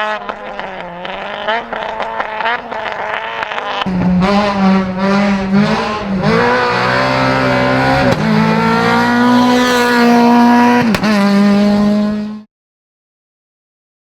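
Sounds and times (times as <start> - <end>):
race car engine at full throttle: 0.0 - 12.5.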